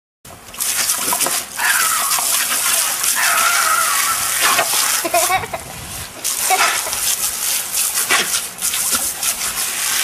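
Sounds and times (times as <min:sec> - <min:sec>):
water jet spraying: 0:00.6 - 0:10.0.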